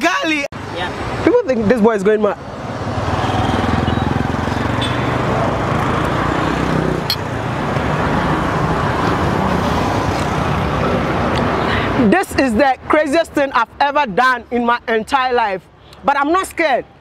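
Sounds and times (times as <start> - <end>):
traffic passing on busy road: 0.0 - 17.0.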